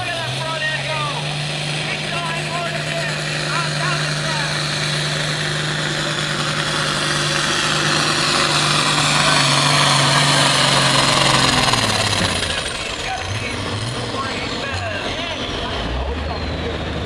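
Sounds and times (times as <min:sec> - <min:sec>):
high turbo whine: 0:00.0 - 0:17.0
tractor diesel engine straining: 0:00.0 - 0:17.0.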